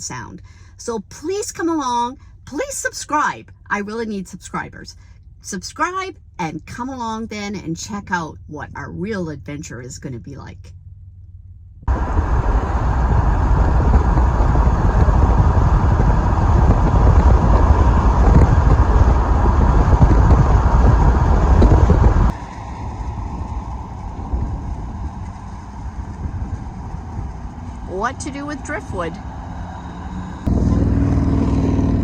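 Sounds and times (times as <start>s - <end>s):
moving vehicle rumbling: 0.0s - 32.0s.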